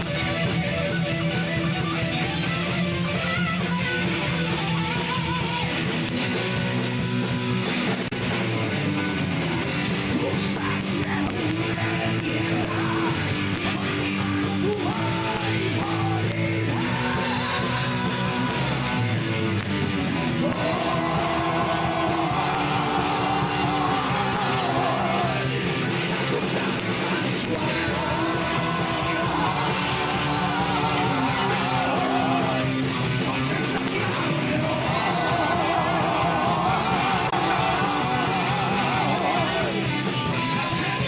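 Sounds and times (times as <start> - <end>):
drums and cymbals: 0.0 - 41.0
strummed electric guitars: 0.0 - 41.0.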